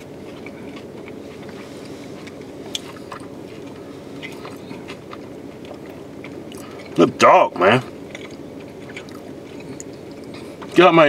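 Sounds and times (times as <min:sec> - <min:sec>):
person chewing food: 0:00.0 - 0:11.0
steady low hum: 0:00.0 - 0:11.0.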